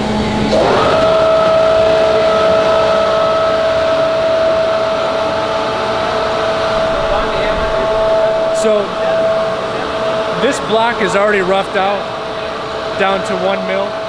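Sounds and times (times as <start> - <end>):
crane electric drive whining: 0.0 - 14.0.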